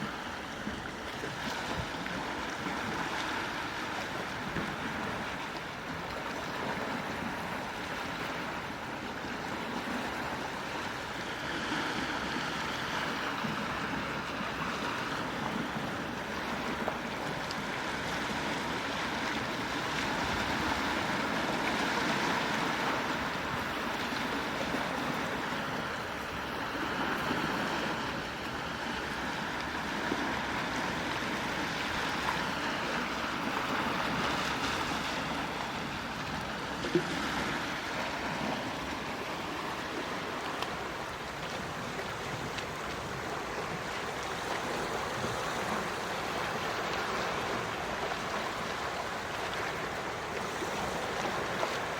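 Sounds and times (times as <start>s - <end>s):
sea waves washing ashore: 0.0s - 51.9s.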